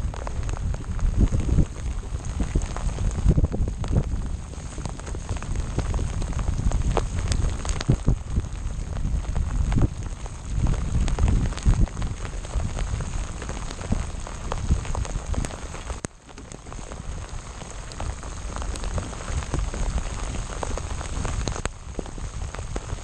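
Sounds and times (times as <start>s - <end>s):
rain pattering: 0.0s - 23.0s
wind buffeting microphone: 0.0s - 23.0s.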